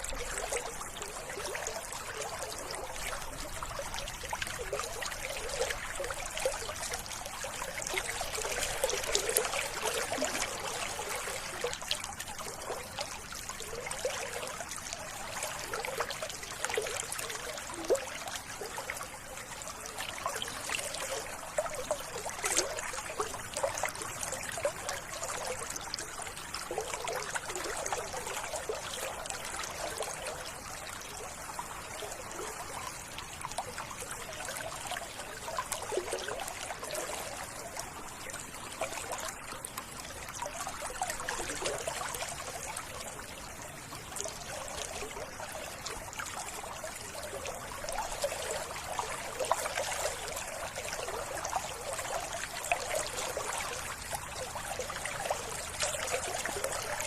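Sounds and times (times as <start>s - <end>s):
stream trickling: 0.0s - 57.0s.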